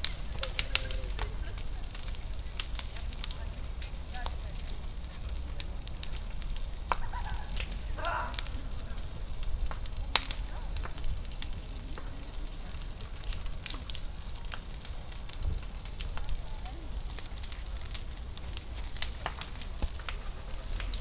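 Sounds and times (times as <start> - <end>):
fire crackling: 0.0 - 21.0
steady low rumble: 0.0 - 21.0.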